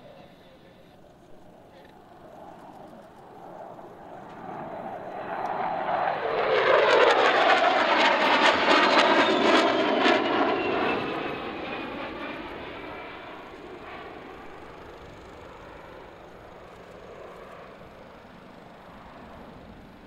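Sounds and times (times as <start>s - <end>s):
jet engines roaring overhead: 0.0s - 20.0s.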